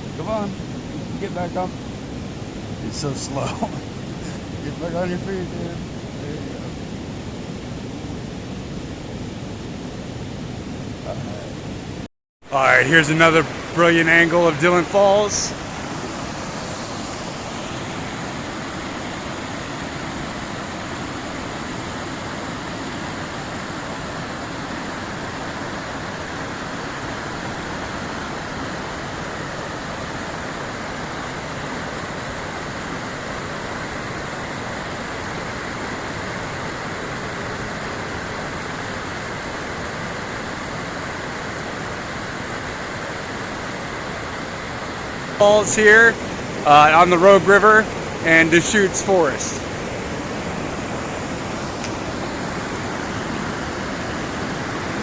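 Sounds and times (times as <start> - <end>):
waterfall and rapids roaring: 0.0 - 55.0.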